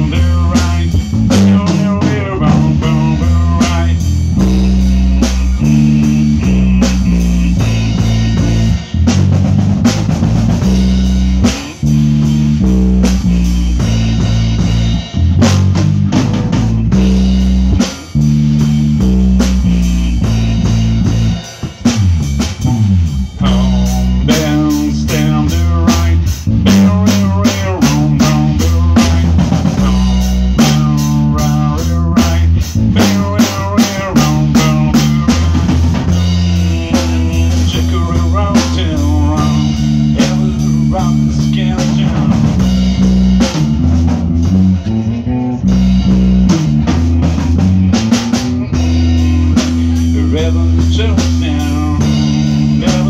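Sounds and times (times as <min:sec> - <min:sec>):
bass long notes: 0:00.0 - 0:53.0
drum kit beat: 0:00.0 - 0:53.0
electric guitar lines: 0:00.0 - 0:53.0
live rock blues band: 0:00.0 - 0:53.0.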